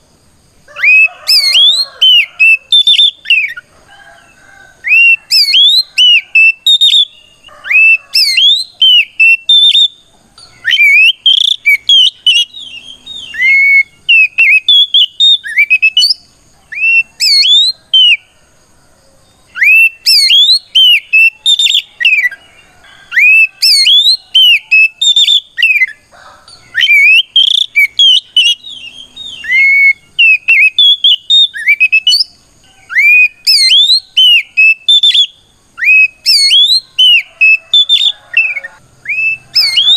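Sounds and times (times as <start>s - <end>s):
magpie-robin singing whistled notes: 0.8s - 3.6s, 4.8s - 18.2s, 19.5s - 22.4s, 23.1s - 26.0s, 26.6s - 39.9s.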